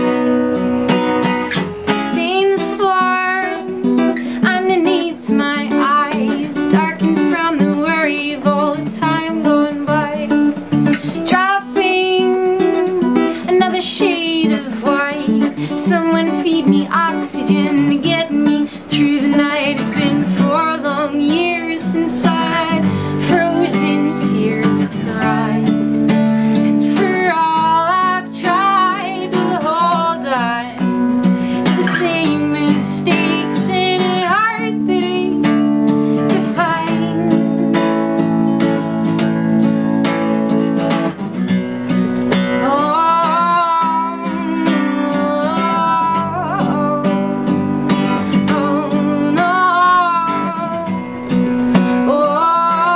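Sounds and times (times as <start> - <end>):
woman singing: 0.0 - 39.2, 42.2 - 52.9
acoustic guitar strumming: 0.0 - 52.9.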